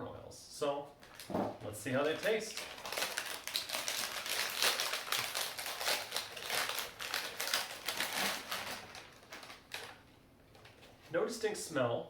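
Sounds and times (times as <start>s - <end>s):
packaging crinkling: 1.0s - 10.9s.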